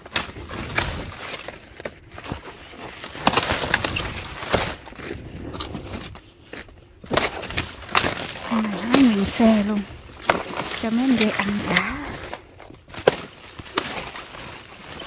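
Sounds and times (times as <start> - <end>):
leaves snapping: 0.0 - 6.1, 7.0 - 15.0
leaf rustling: 0.0 - 15.0.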